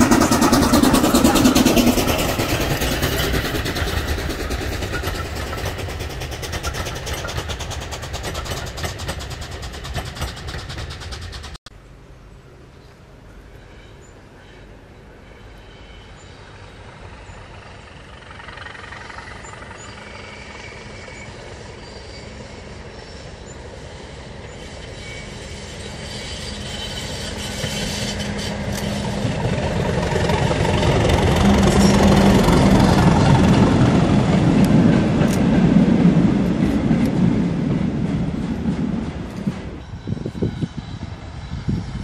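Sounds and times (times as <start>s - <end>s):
diesel locomotive passing: 0.0s - 42.0s.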